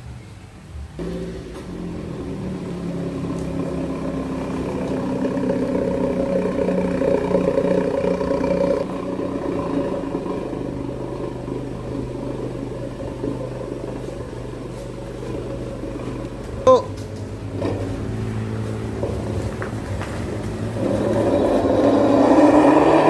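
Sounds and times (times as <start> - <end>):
car engine revving and idling: 0.8 - 23.0.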